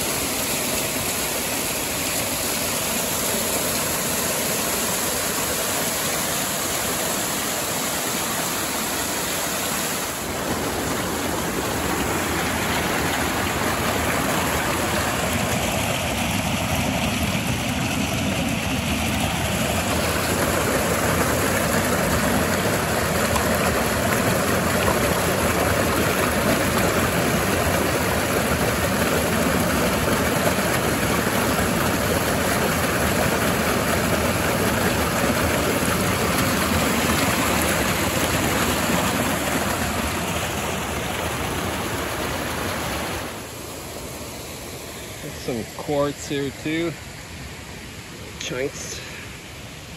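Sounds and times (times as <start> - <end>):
creek water rushing over rocks: 0.0 - 49.9.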